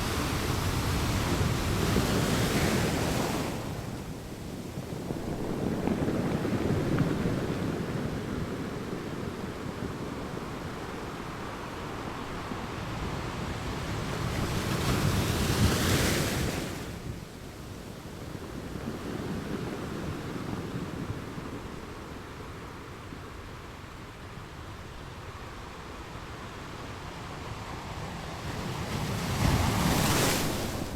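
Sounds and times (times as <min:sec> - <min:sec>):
ocean waves washing onto shore: 0:00.0 - 0:30.9.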